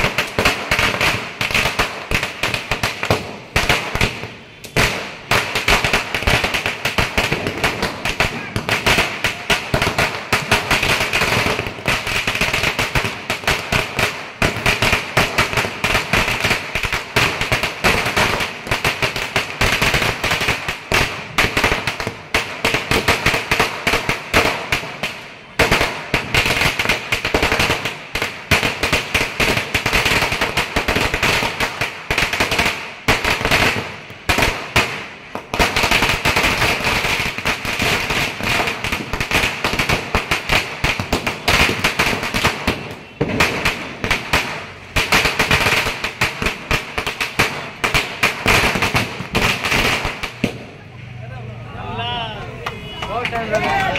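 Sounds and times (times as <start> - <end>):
firecrackers banging: 0.0 - 53.9.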